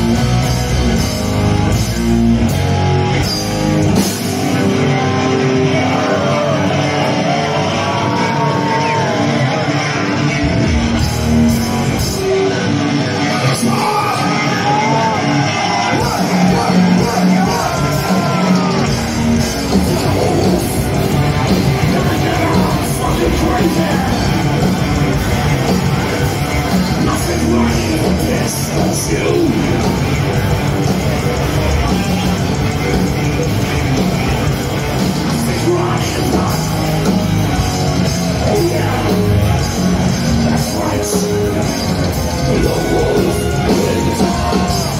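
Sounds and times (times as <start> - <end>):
distorted electric guitars: 0.0 - 44.9
drums: 0.0 - 44.9
harsh shouted vocals: 4.8 - 10.9, 13.2 - 44.9.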